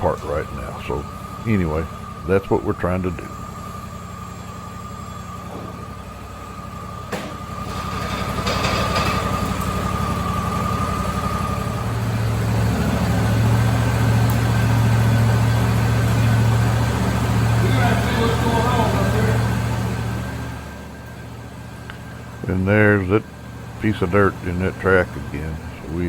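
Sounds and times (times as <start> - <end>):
sawmill machinery running: 0.0 - 26.0.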